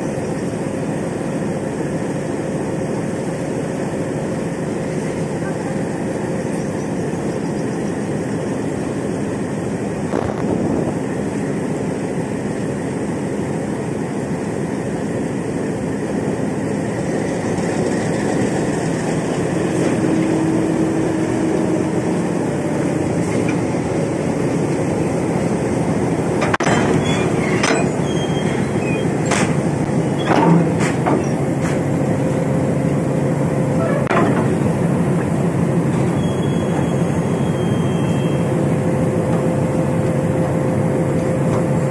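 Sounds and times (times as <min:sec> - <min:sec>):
diesel locomotive engine running: 0:00.0 - 0:41.9.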